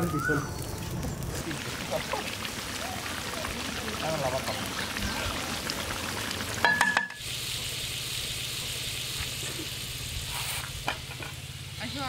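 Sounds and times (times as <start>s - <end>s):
meat sizzling in oil: 0.6s - 11.8s.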